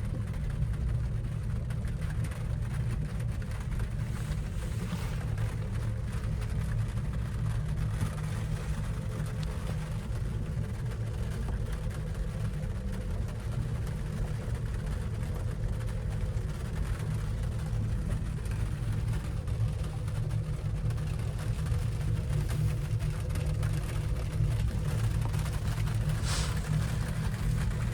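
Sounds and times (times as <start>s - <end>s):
faint steady hum: 0.0s - 27.9s
gondola cabin low rumble: 0.0s - 27.9s.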